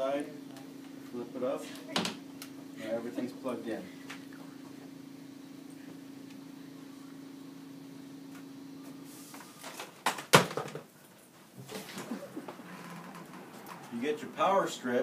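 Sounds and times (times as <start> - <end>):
steady low hum: 0.0 - 10.0, 11.0 - 15.0.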